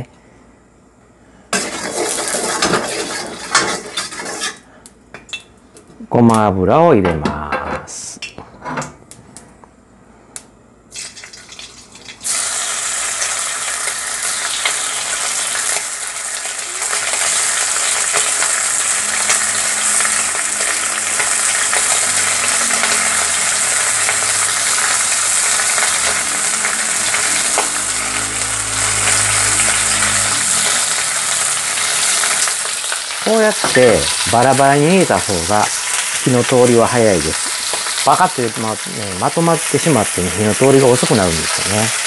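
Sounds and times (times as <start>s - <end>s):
meat sizzling in a wok: 1.5s - 4.6s, 10.9s - 42.0s.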